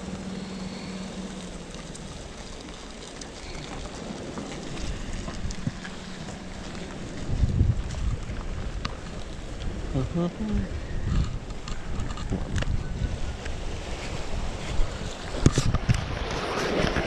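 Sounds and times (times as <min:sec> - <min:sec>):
low engine hum: 0:00.0 - 0:17.0
wind and sea noise: 0:00.0 - 0:17.0.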